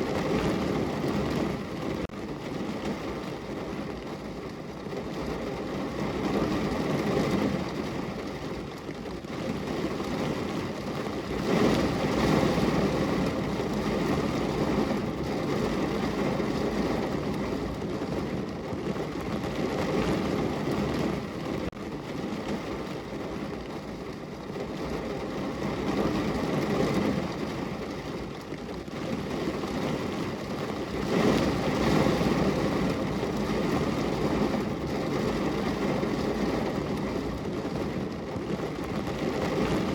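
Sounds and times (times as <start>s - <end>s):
rain pattering on a car: 0.0s - 39.9s.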